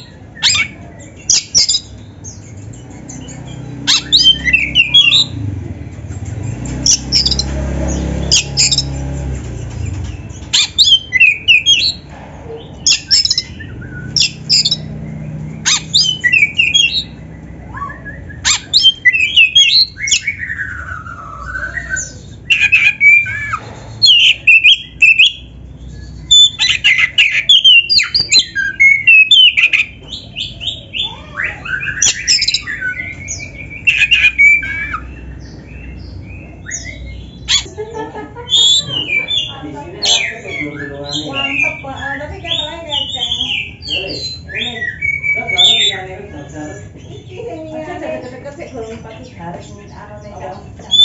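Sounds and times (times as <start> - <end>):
bird singing varied song: 0.0 - 51.0.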